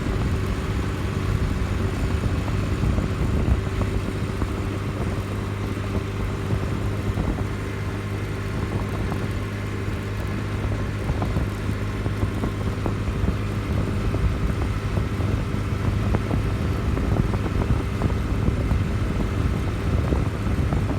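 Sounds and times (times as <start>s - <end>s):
road noise: 0.0s - 20.9s
vehicle engine hum: 0.0s - 20.9s.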